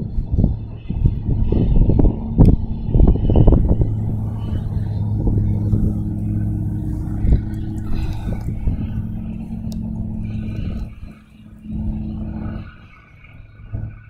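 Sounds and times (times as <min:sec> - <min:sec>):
vehicle engine humming: 0:00.0 - 0:14.0
wind rumble on microphone: 0:00.0 - 0:14.0.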